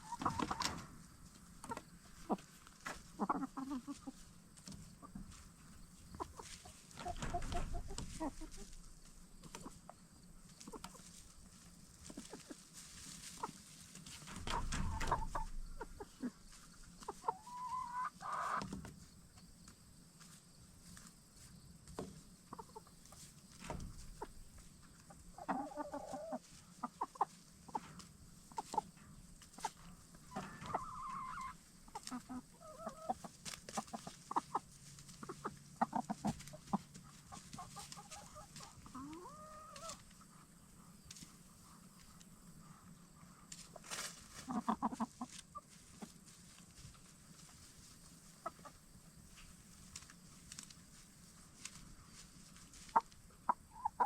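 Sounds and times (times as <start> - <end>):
hens clucking softly: 0.0 - 54.0
hens pecking and scratching: 0.0 - 54.0.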